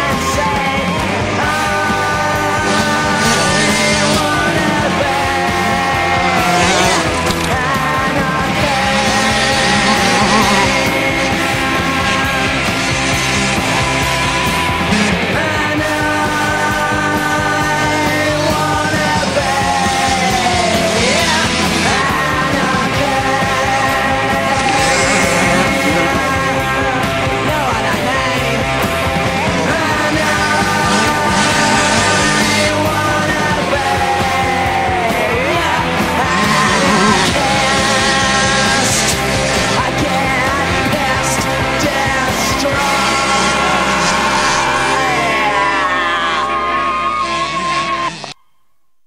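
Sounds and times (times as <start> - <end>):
rock music with singing: 0.0 - 48.4.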